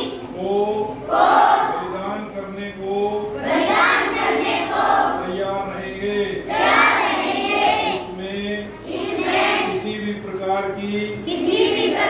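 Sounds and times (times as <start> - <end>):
group reciting in unison: 0.0 - 2.2, 2.9 - 12.0.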